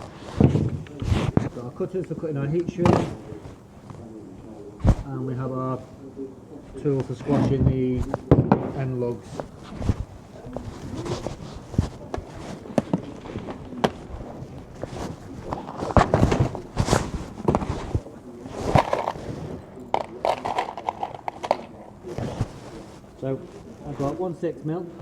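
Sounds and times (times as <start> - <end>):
rustling: 0.0 - 5.8, 6.6 - 24.4.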